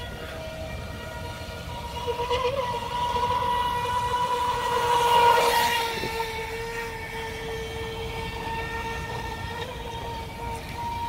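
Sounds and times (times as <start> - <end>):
toy boat motor whining: 0.0 - 11.0.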